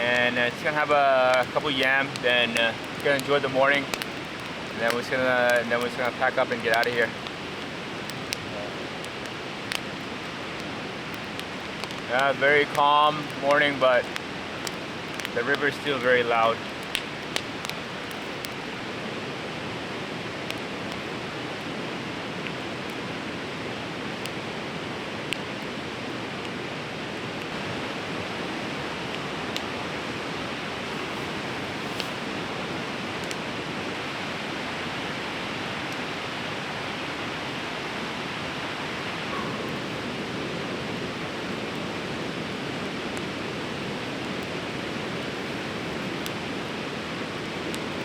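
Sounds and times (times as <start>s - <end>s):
campfire crackles: 0.0s - 48.0s.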